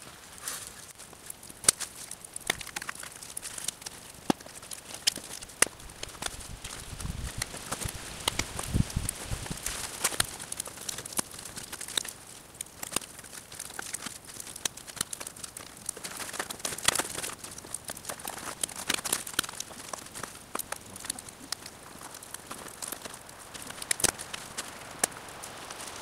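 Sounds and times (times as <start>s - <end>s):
birch bark crackling and snapping: 0.0s - 26.0s.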